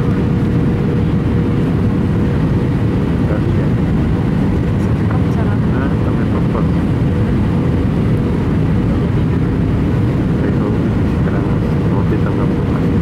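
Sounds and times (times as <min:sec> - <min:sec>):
aircraft engines rumbling in cabin: 0:00.0 - 0:13.0.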